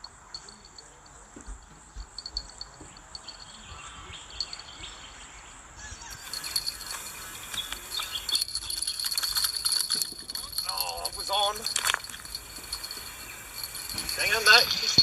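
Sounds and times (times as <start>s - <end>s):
rattling ticking noise: 0.0s - 3.7s, 6.2s - 15.0s
insects chirring: 0.0s - 15.0s
bird chirps: 2.2s - 9.7s, 10.4s - 15.0s.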